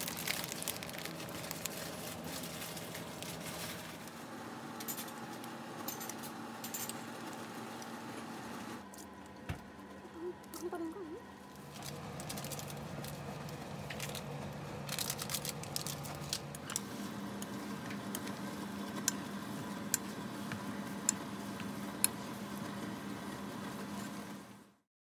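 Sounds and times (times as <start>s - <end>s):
steady low hum: 0.0s - 24.1s.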